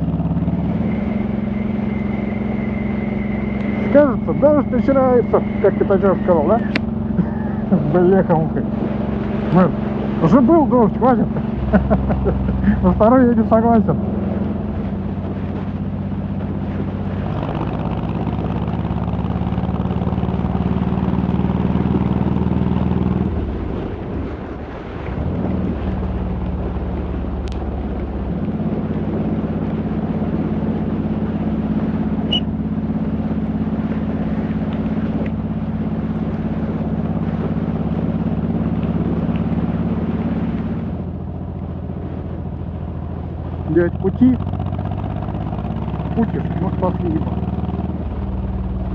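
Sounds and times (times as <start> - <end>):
motorcycle engine running: 0.0 - 23.8, 25.5 - 48.9.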